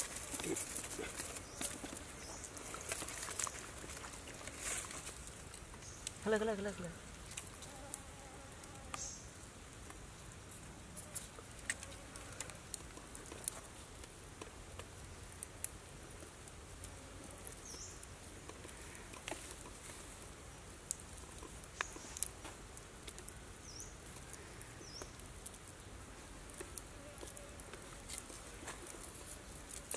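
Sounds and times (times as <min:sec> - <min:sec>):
faint clicks and rustles: 0:00.0 - 0:06.3, 0:09.7 - 0:29.9
quiet forest background: 0:00.0 - 0:29.9.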